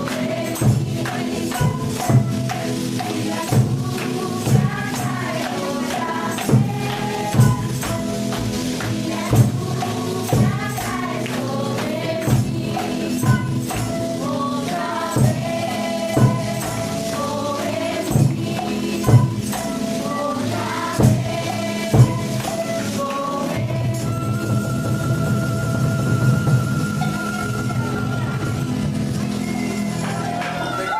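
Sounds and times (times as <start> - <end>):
voices singing over percussion: 0.0 - 30.9.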